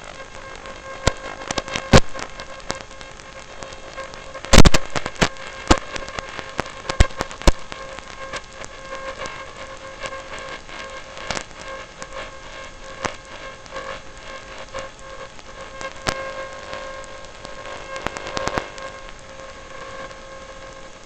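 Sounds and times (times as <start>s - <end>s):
sharp clicks and snaps: 0.2s - 20.9s.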